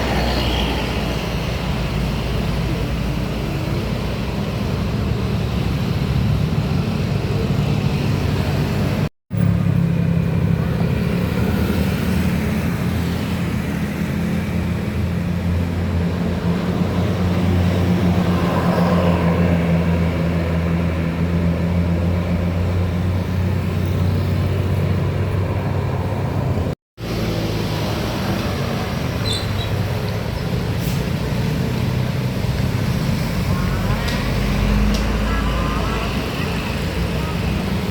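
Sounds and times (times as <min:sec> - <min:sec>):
road traffic: 0:00.0 - 0:37.9.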